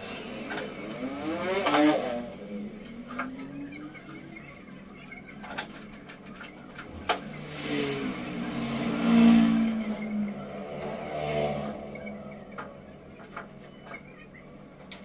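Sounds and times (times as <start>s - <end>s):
vehicle engine rising and falling: 0.0s - 4.9s, 5.6s - 14.8s.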